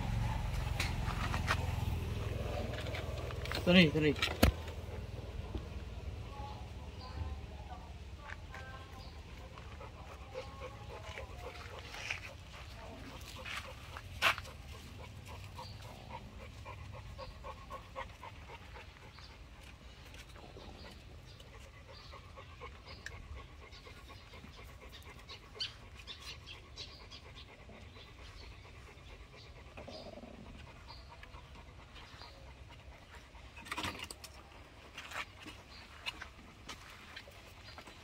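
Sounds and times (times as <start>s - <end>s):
soft rhythmic animal sounds: 0.0s - 38.0s.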